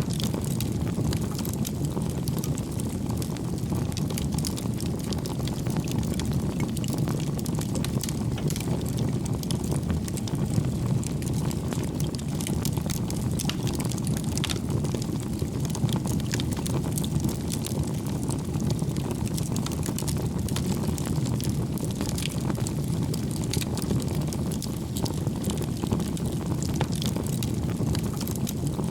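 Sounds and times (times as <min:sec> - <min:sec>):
wood fire crackling: 0:00.0 - 0:28.9.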